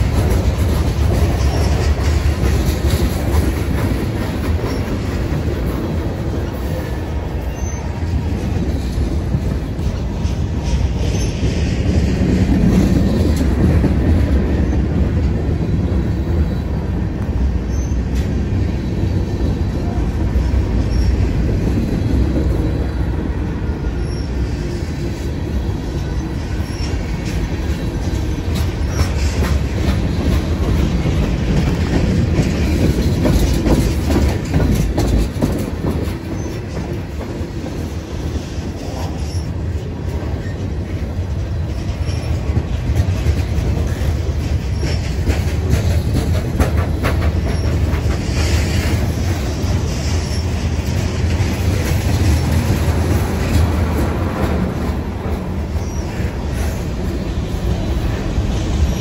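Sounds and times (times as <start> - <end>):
freight cars rolling on rails: 0.0 - 59.0.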